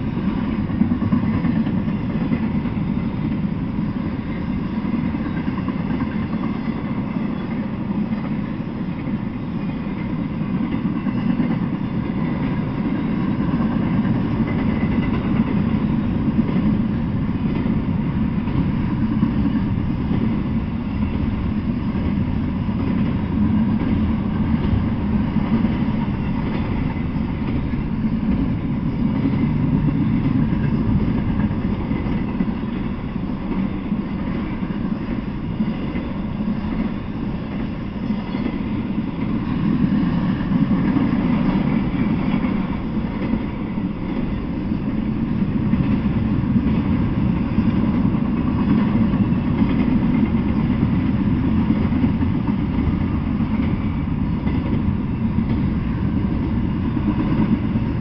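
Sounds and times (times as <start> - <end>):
freight cars rolling on rails: 0.0 - 58.0.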